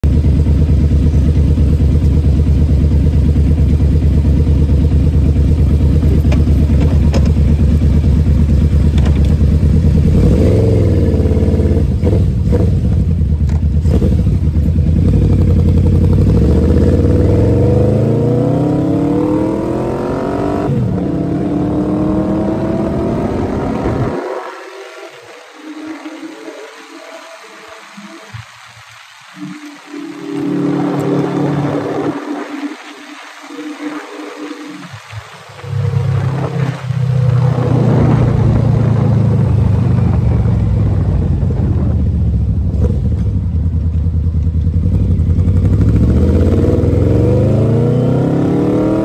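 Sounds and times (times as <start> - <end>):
motorcycle engine idling and revving: 0.0 - 28.4, 29.4 - 49.0.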